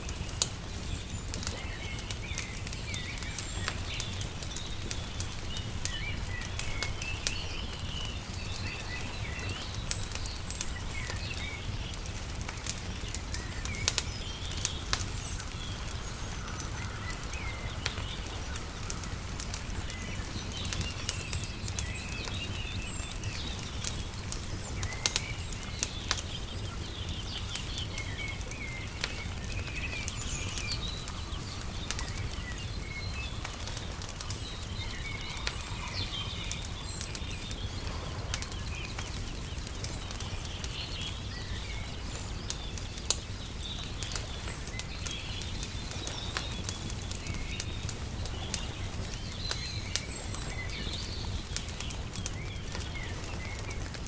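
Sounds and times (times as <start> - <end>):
small birds chirping: 0.0 - 54.0
wood fire crackling: 0.0 - 54.0.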